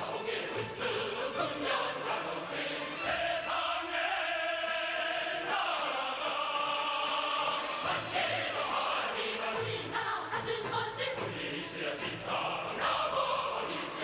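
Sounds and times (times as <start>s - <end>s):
choir singing held chords: 0.0s - 14.0s
musical accompaniment: 0.0s - 14.0s.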